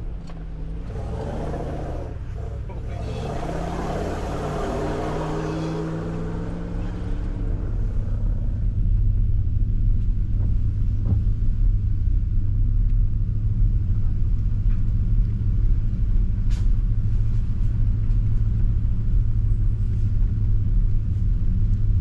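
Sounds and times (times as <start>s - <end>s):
road noise: 0.0s - 22.0s
vehicle engine drone: 0.0s - 22.0s.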